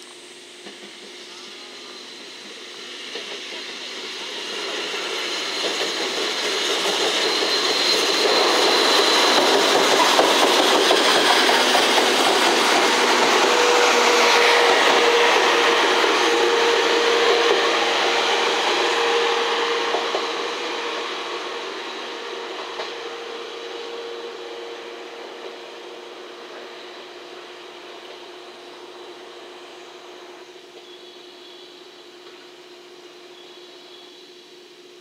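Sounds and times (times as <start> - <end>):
train running on rails: 0.0 - 35.0.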